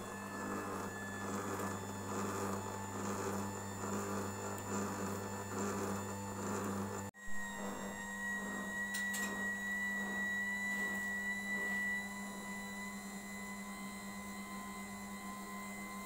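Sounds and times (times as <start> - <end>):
oil press motor hum and whine: 0.0 - 16.0.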